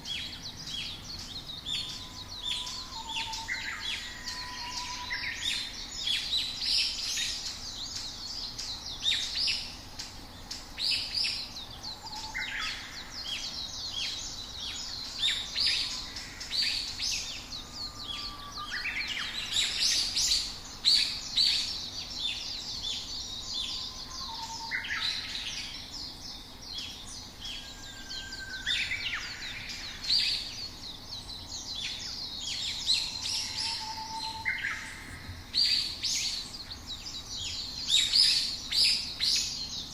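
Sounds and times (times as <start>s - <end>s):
low whistled bird notes: 0.0s - 8.1s, 10.9s - 25.7s, 26.9s - 30.6s, 31.2s - 39.8s
songbirds chirping and singing: 0.0s - 39.9s.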